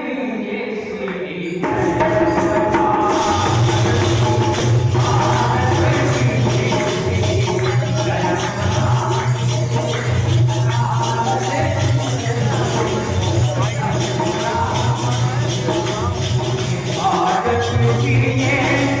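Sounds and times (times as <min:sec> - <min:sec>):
band with percussion: 0:01.5 - 0:19.0
person singing: 0:02.7 - 0:19.0.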